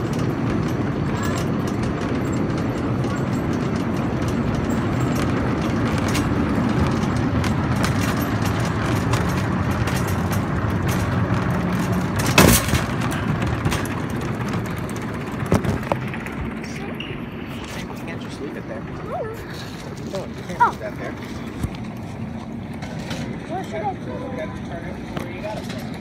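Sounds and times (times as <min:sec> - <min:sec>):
escalator rumble and rattle: 0:00.0 - 0:26.0.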